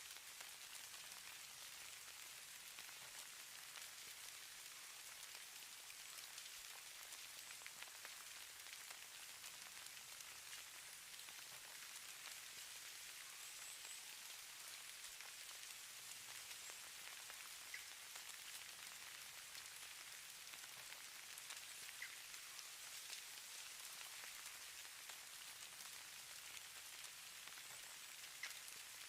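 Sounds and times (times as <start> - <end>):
falling precipitation hiss: 0.0 - 29.0
tiny ticks of landing flakes: 0.1 - 29.0.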